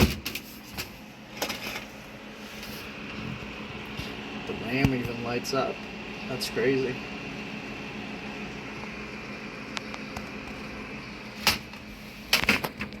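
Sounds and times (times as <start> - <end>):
computer fans whirring: 0.0 - 13.0
faint high whine: 1.4 - 12.2.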